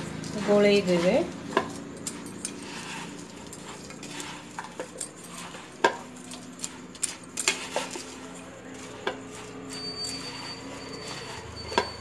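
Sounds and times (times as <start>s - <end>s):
puffed rice rustling: 0.0s - 12.0s.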